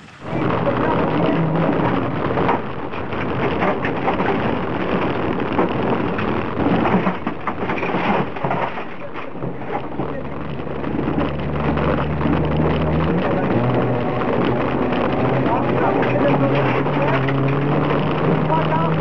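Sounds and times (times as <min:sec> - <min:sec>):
car engine pulling hard: 0:00.0 - 0:19.0
gravel rattling against car floor: 0:01.7 - 0:19.0.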